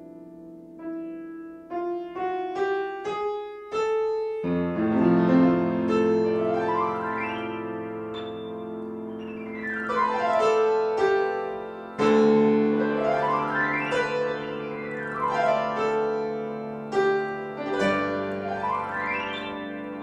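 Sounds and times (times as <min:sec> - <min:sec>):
piano bass notes: 0:00.0 - 0:20.0
piano glissandos: 0:00.0 - 0:20.0
piano melody notes: 0:00.0 - 0:20.0.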